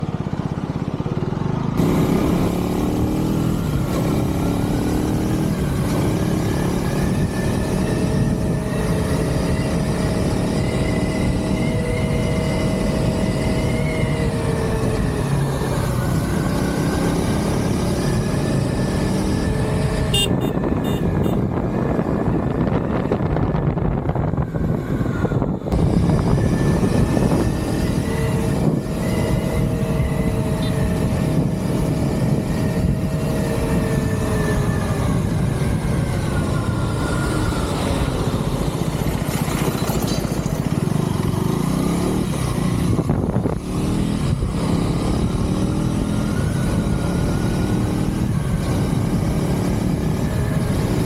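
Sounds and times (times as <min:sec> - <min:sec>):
motorcycle engine revving through gears: 0:00.0 - 0:51.0.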